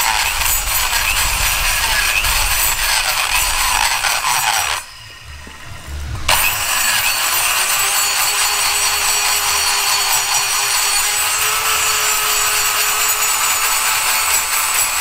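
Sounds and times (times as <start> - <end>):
rotary grinder grinding metal: 0.0 - 15.0.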